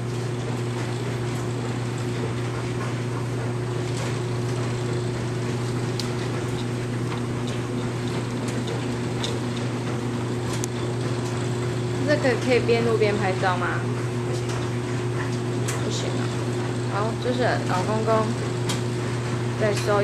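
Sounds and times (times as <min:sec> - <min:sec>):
clothes dryers humming: 0:00.0 - 0:20.0.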